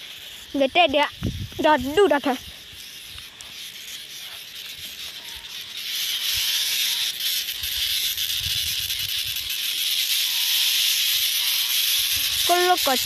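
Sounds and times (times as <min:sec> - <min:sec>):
cicadas droning: 0:00.0 - 0:13.0.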